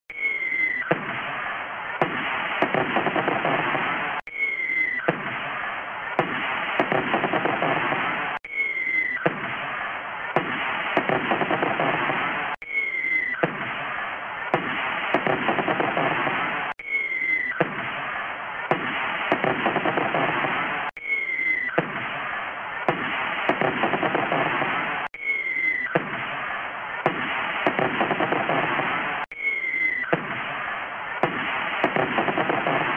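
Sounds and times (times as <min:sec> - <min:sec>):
firework booms and bangs: 0:00.1 - 0:32.9
firework falling whistle: 0:00.1 - 0:32.9.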